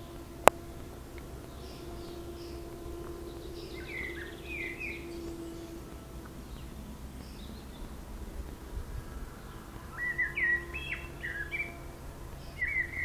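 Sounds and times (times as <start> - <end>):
songbird chirping: 0.0 - 13.0
steady low hum: 0.0 - 13.0.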